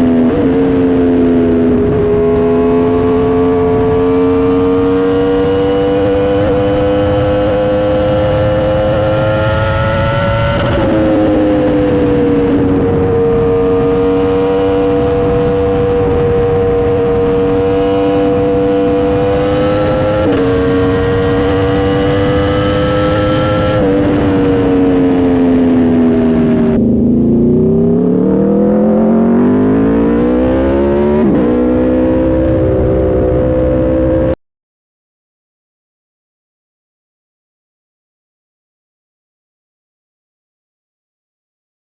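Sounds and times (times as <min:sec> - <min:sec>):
motorcycle engine revving: 0:00.0 - 0:34.4.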